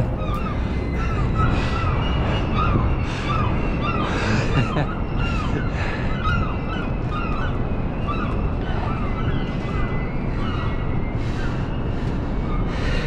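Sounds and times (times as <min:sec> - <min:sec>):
flock of birds calling: 0:00.0 - 0:13.0
steady low rumble: 0:00.0 - 0:13.0.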